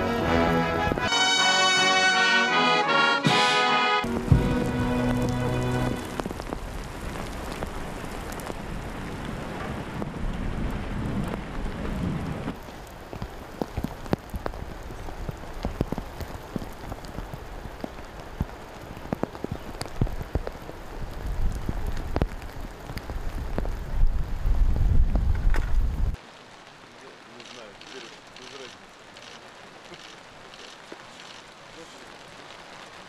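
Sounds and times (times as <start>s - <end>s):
rain on wet stone paving: 0.0s - 33.0s.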